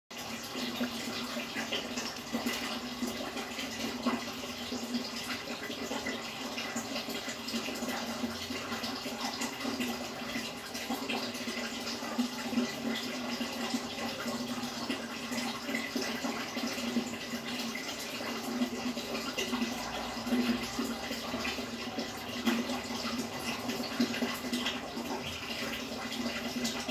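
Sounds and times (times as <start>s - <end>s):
aquarium water bubbling: 0.1s - 26.9s.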